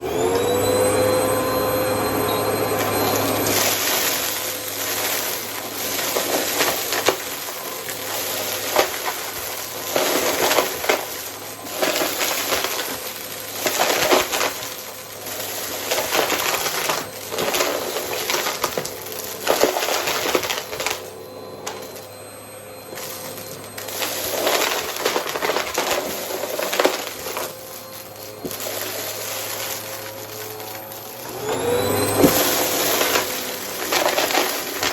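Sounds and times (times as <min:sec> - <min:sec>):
vacuum cleaner running: 0:00.0 - 0:34.9
debris crackling and rattling: 0:02.8 - 0:22.1, 0:22.9 - 0:34.9.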